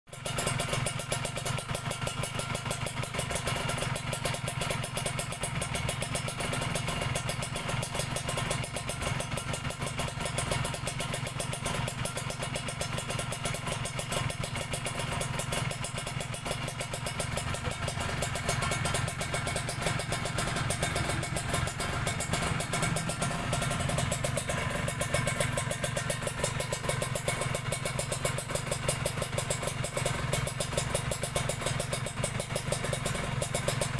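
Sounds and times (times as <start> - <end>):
two-stroke engine idling: 0.1 - 33.9.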